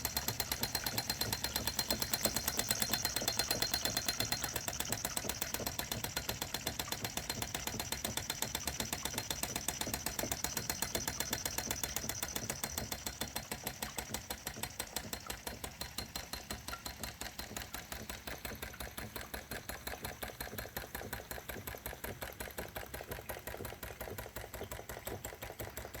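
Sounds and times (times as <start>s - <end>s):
toy steam engine clicking: 0.0s - 26.0s.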